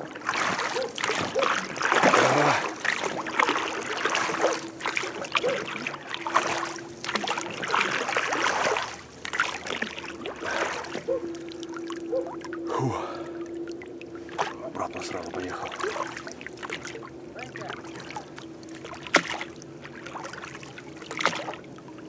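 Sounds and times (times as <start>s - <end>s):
oars swishing through water: 0.0s - 22.0s.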